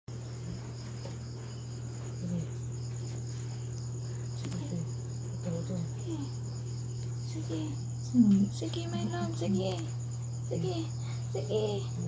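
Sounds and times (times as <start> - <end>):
continuous low hum: 0.1 - 12.0
crickets chirping: 0.1 - 12.0.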